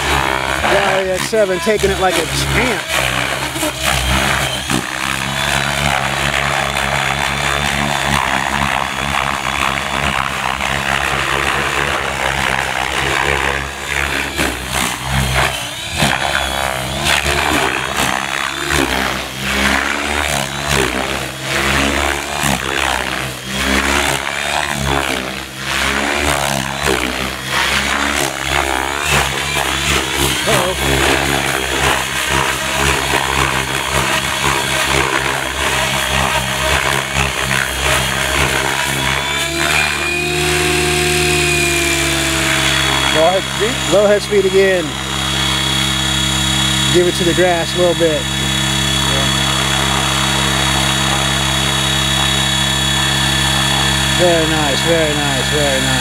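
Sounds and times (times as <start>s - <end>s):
blade noise surges: 0.0s - 56.0s
model helicopter rotor hum: 0.0s - 56.0s.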